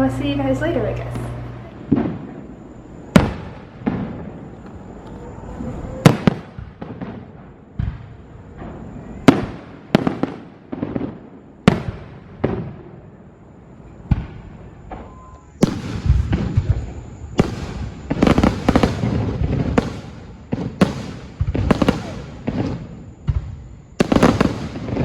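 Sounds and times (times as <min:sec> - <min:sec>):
fireworks banging: 0:00.0 - 0:13.1, 0:13.9 - 0:25.0.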